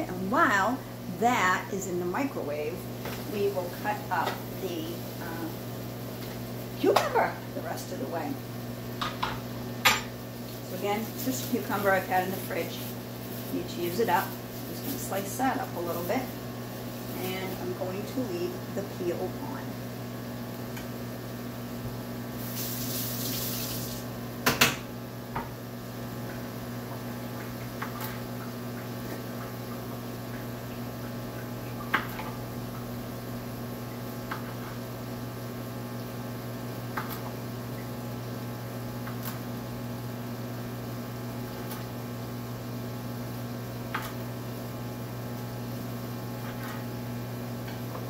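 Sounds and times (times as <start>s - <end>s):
microwave oven humming: 0.0s - 48.0s.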